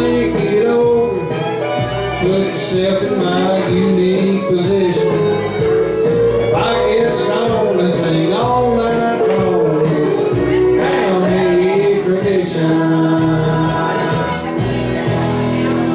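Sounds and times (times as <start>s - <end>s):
man singing into microphone: 0.0s - 14.7s
loud backing music: 0.0s - 15.9s.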